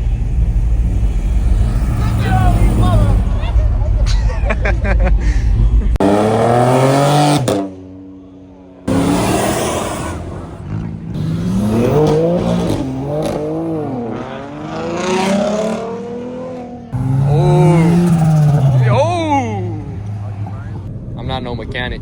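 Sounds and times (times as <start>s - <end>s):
car engine revving: 0.0s - 7.9s, 8.8s - 20.9s.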